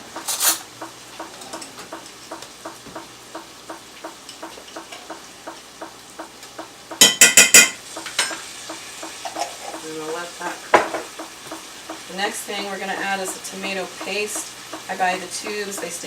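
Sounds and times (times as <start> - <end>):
faint sizzle: 0.0 - 16.0
utensil scraping and tapping pan: 0.1 - 16.0.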